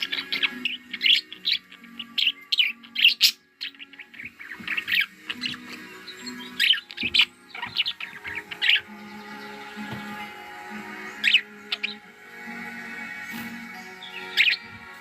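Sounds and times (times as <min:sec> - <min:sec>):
background music with low notes: 0:00.0 - 0:15.0
budgerigars chirping: 0:00.0 - 0:15.0.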